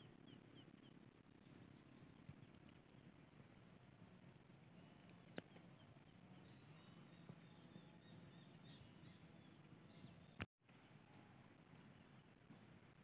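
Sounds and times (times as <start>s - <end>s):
bird chirps: 0.0s - 10.5s.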